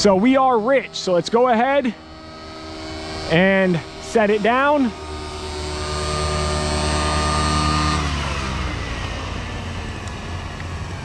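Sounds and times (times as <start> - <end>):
model helicopter engine and rotor: 0.0 - 11.0.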